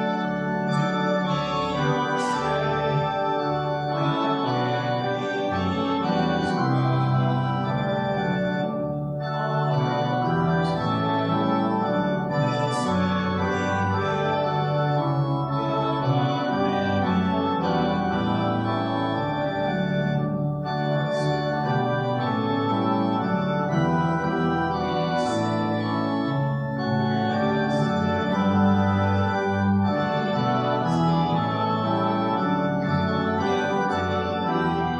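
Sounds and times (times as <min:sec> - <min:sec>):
church organ playing a hymn: 0:00.0 - 0:34.9.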